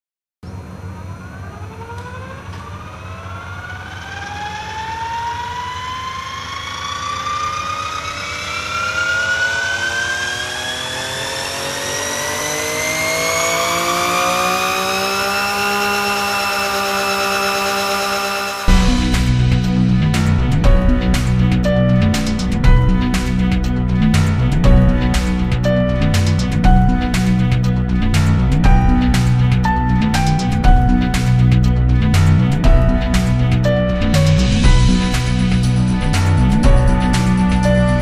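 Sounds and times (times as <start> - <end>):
motor whine rising in pitch: 0.4 - 38.0.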